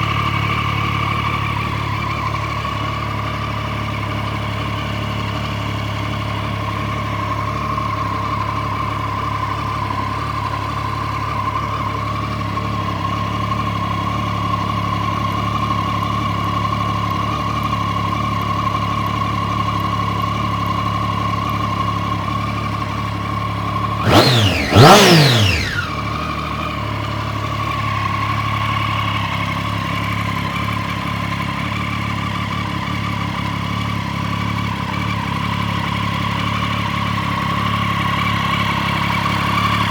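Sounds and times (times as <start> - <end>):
engine throttle blips: 0.0 - 39.9
motorcycle engine idling: 0.0 - 39.9.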